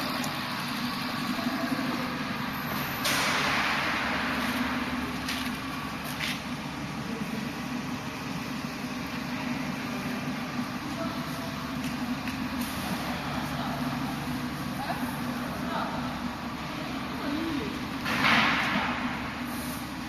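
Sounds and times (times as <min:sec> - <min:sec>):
machinery hum: 0:00.0 - 0:20.0.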